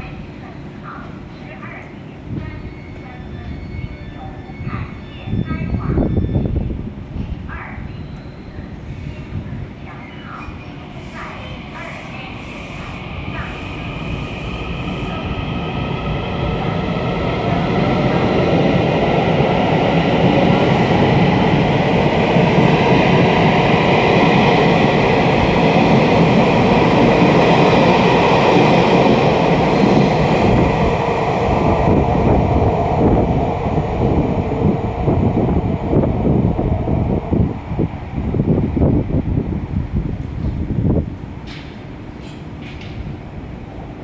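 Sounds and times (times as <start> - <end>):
train rumble and rail noise: 0.0 - 44.0.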